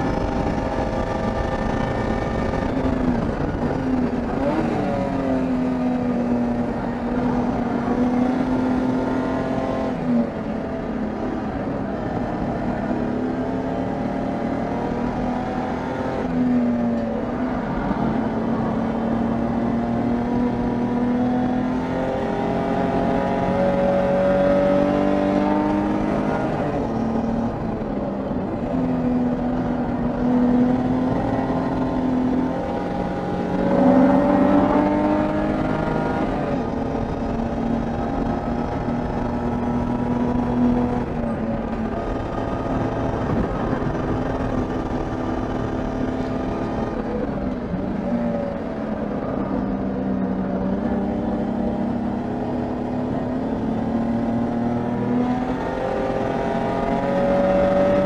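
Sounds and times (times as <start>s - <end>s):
race car engine running hard: 0.0s - 58.0s.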